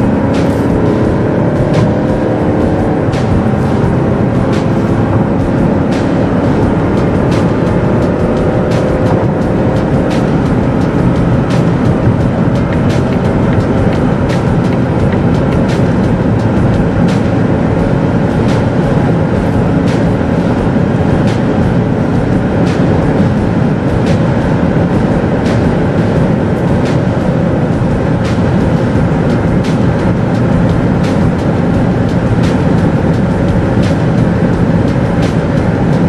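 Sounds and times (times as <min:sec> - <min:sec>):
diesel engine drone in car cabin: 0:00.0 - 0:36.0
wind and tyre noise: 0:00.0 - 0:36.0.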